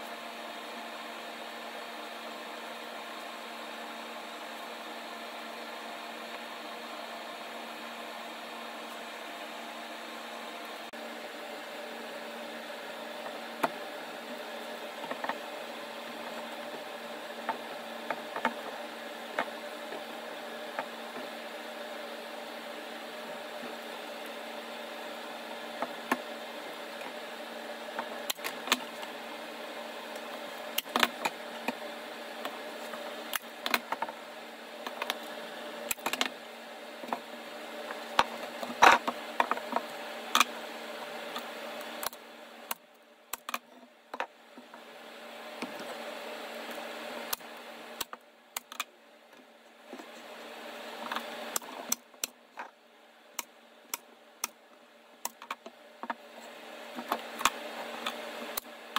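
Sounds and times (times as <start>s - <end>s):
steady hum: 0.0s - 58.9s.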